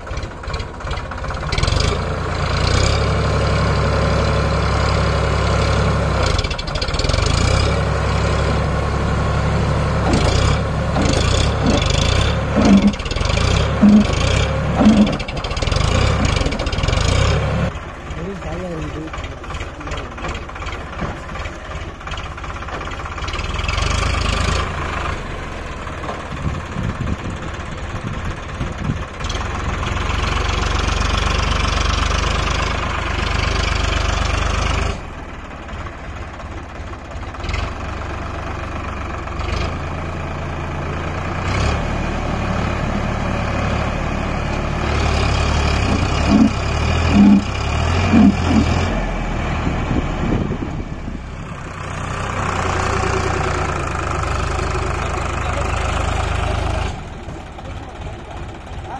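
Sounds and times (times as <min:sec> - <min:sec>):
tractor diesel engine: 0:00.0 - 0:58.9.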